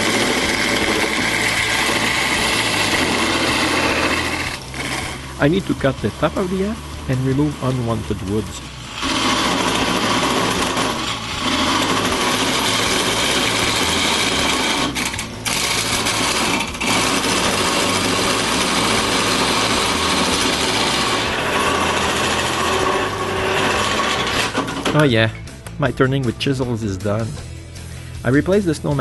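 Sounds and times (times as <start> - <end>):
lathe chisel scraping wood: 0.0 - 25.1.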